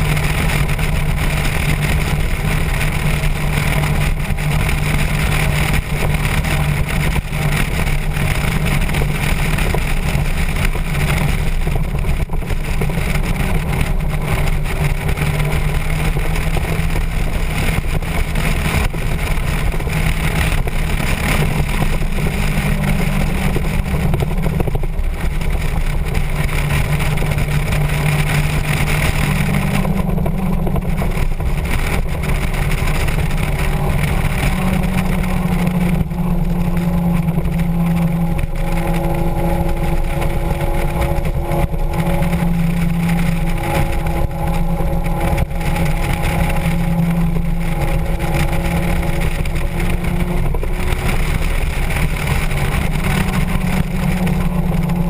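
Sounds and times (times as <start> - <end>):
motorcycle engine drone: 0.0 - 55.0
wind rushing: 0.0 - 55.0.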